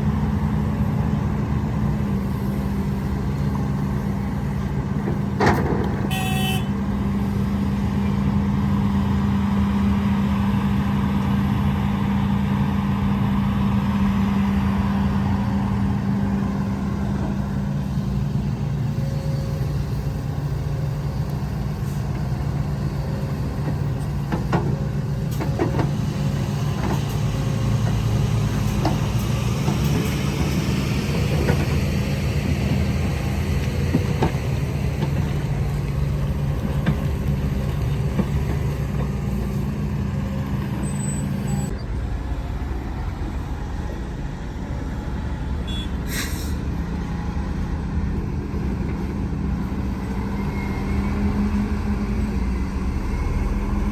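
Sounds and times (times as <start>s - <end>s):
heavy diesel machinery running: 0.0s - 53.9s.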